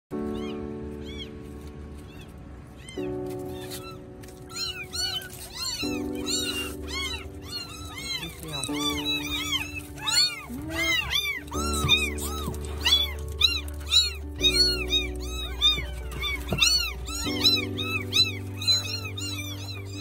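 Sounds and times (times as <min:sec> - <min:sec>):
soft background music: 0:00.1 - 0:20.0
kittens meowing: 0:00.2 - 0:20.0.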